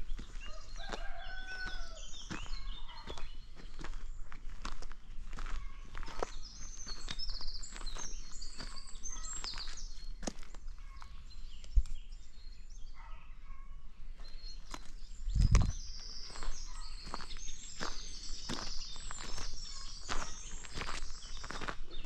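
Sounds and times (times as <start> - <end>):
chickens chirping and peeping: 0.0 - 12.1, 14.6 - 22.0.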